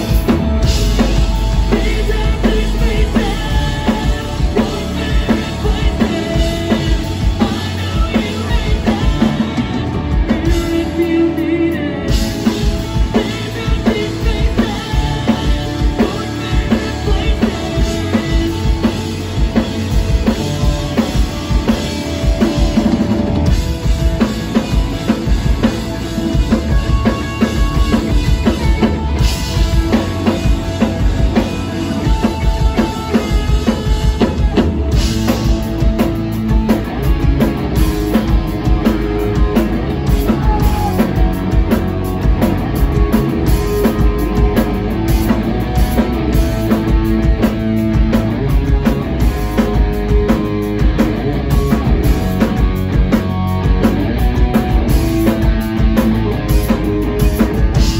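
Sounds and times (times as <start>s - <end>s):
rock band playing live: 0.0s - 57.9s.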